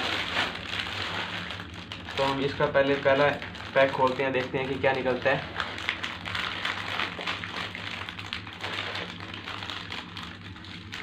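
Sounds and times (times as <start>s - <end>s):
plastic packet crinkling: 0.0s - 11.0s
steady low hum: 0.0s - 11.0s.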